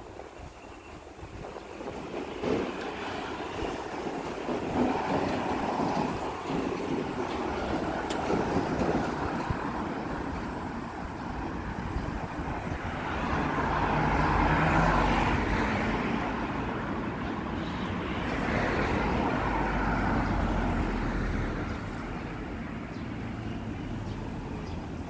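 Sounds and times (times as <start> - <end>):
low traffic hum: 0.0 - 25.0
cars passing: 2.2 - 25.0.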